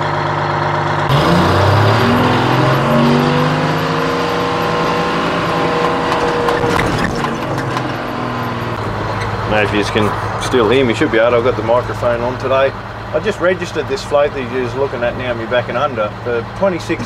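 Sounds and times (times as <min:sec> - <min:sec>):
truck diesel engine driving past: 0:00.0 - 0:17.0.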